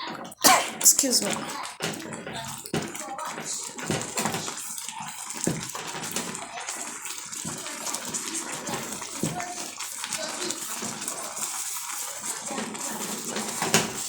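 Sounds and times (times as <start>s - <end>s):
water boiling in a pot: 0.0s - 14.0s.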